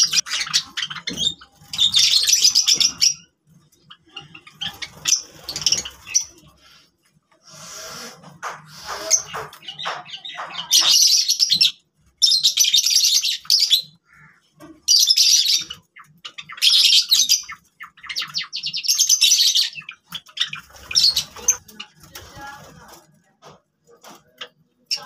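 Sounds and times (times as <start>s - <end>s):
sparrows chirping: 0.0s - 25.0s.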